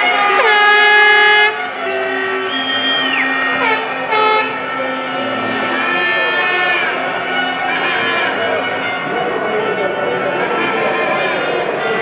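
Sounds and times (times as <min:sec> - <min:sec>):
air horn blasts: 0:00.0 - 0:12.0
low horn drone: 0:00.0 - 0:12.0.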